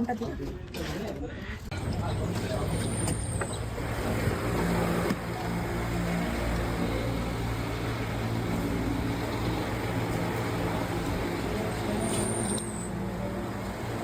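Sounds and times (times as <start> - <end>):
engine humming: 1.7 - 14.0.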